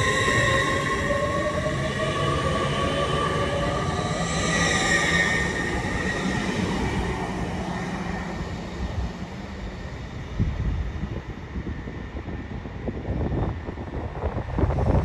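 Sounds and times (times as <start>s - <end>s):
train passing with motor whine: 0.0s - 15.0s
wind gusts on microphone: 0.0s - 15.0s.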